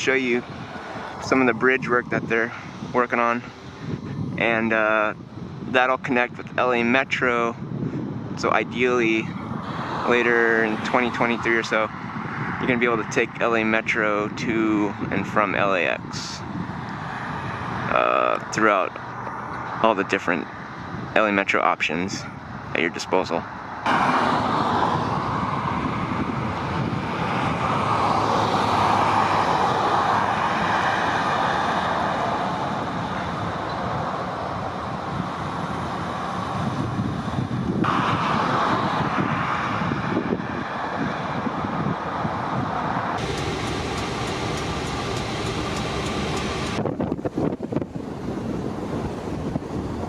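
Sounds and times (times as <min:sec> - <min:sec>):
road traffic: 0:00.0 - 0:50.0.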